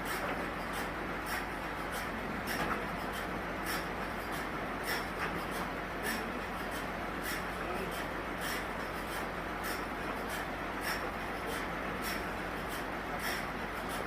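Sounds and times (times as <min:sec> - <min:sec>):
sawmill machinery hum: 0:00.0 - 0:14.0.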